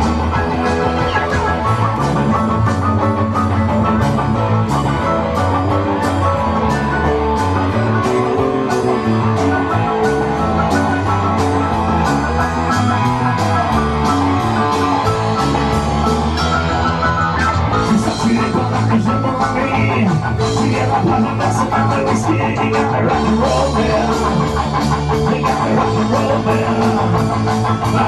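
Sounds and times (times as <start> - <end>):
bass guitar: 0.0 - 28.0
electric guitars: 0.0 - 28.0.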